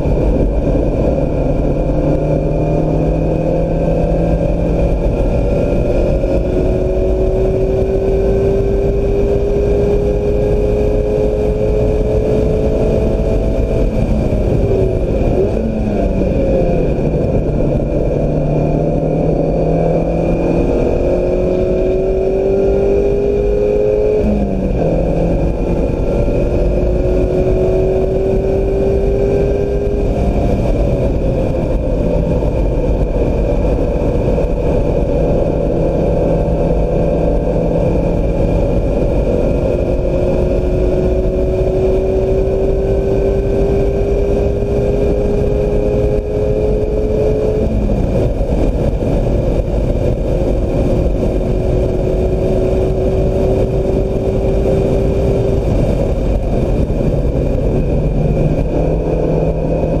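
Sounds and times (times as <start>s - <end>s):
car engine revving hard: 0.0s - 60.0s
wind and road noise: 0.0s - 60.0s.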